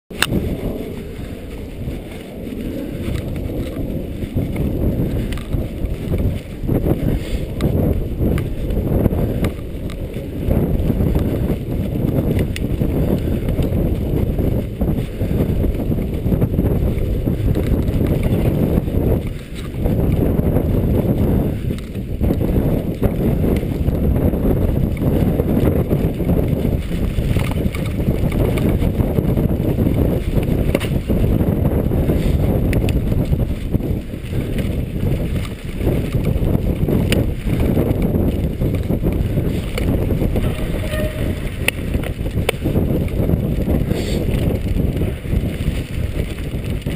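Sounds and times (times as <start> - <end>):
bike rattling over bumps: 0.1 - 46.9
bike tyres on grass: 0.1 - 46.9
wind rumble on microphone: 0.1 - 46.9.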